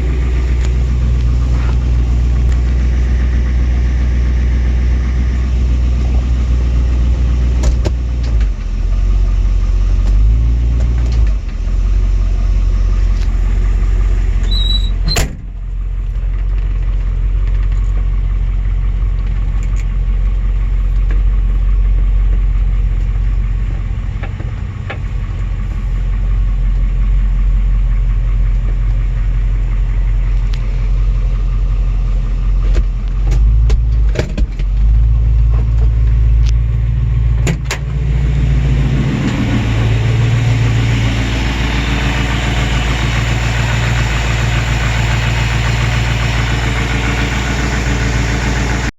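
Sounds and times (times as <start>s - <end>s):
car engine idling with knock: 0.0s - 48.9s.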